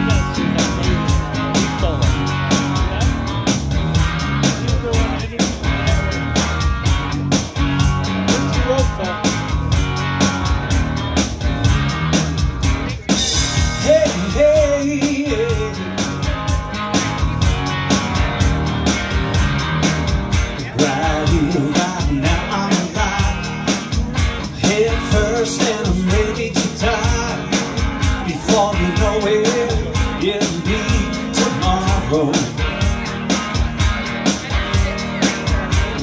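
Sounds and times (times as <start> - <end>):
drum beat: 0.0 - 36.0
electric guitar: 0.0 - 36.0
sliding high guitar notes: 0.0 - 36.0.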